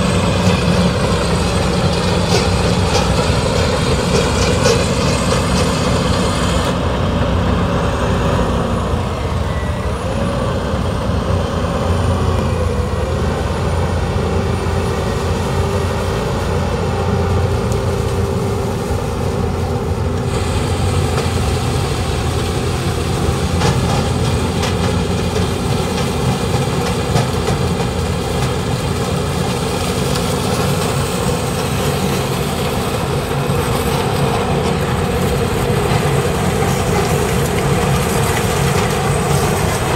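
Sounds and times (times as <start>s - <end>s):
heavy diesel machinery drone: 0.0s - 39.9s.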